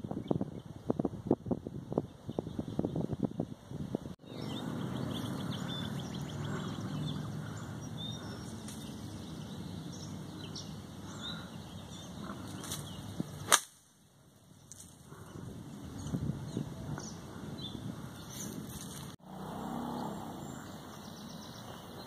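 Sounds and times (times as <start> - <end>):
wind rumble on microphone: 0.0 - 13.5, 14.6 - 19.2
birds chirping: 1.9 - 13.6, 14.2 - 22.0.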